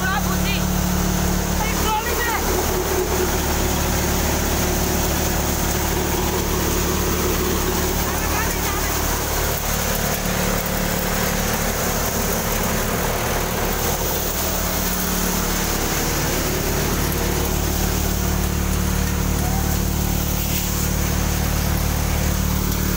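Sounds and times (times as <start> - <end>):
grain thresher running: 0.0 - 22.9.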